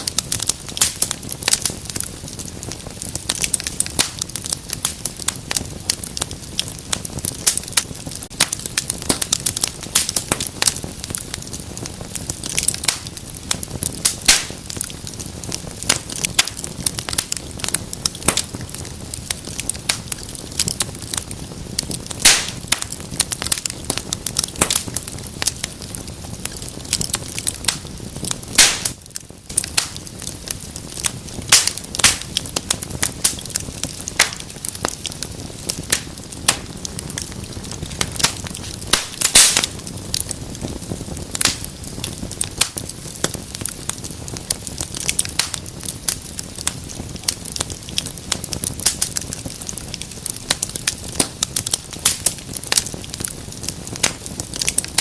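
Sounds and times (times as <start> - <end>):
flames rushing: 0.0 - 55.0
loud fire pops: 0.0 - 55.0
wood fire crackling: 0.0 - 55.0.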